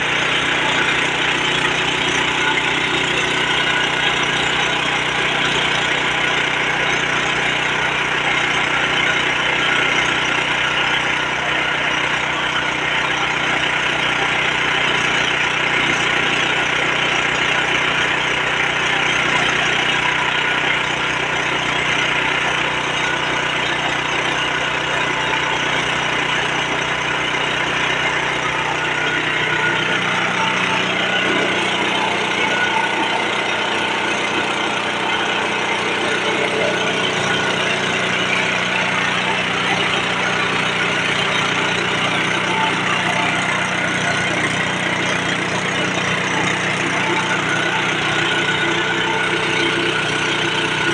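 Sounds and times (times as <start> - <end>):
rice milling machine whirring: 0.0 - 50.9.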